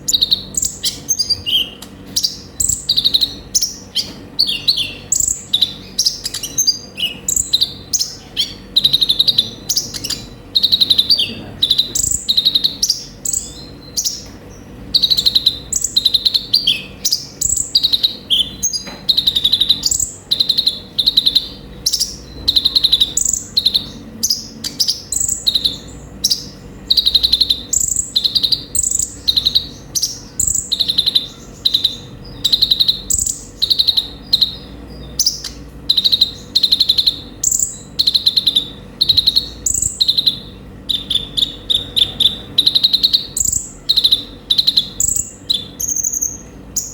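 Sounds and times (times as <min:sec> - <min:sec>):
faint hum: 0:00.0 - 0:46.9
sunbird singing: 0:00.0 - 0:46.9.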